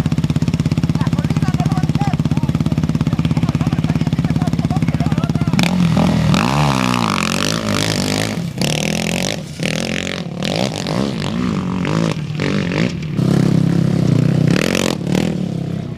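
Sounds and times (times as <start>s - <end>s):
motorcycle engines revving: 0.0s - 15.9s.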